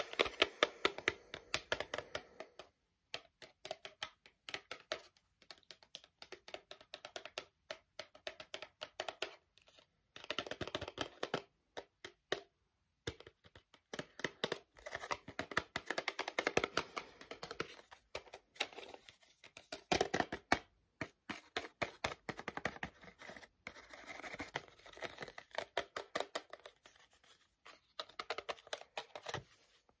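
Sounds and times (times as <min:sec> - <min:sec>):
finger tapping on a package: 0:00.0 - 0:29.4.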